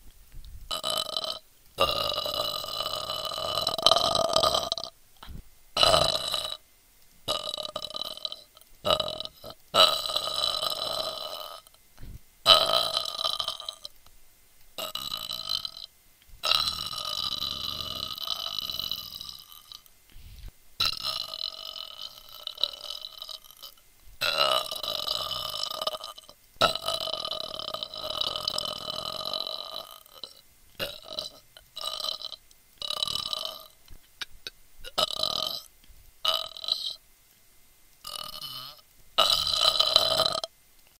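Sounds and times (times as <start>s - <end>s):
person burping: 0.7s - 6.6s, 7.3s - 14.0s, 14.8s - 19.9s, 20.8s - 37.0s, 38.0s - 40.5s.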